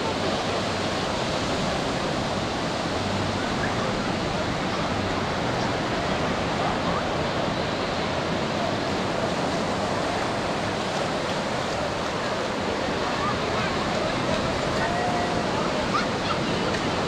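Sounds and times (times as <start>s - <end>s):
faint crowd voices: 0.0s - 17.0s
surf breaking on beach: 0.0s - 17.0s.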